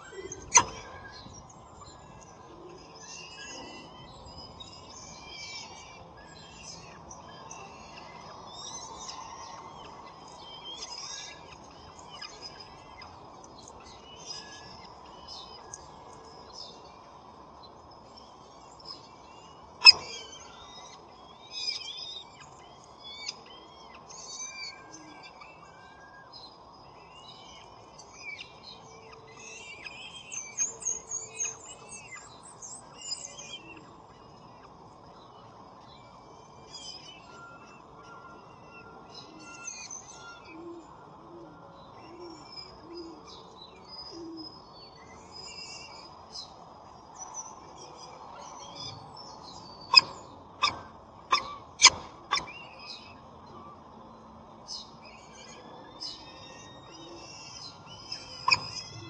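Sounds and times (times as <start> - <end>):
small birds chirping: 0.0 - 41.2, 41.8 - 59.0.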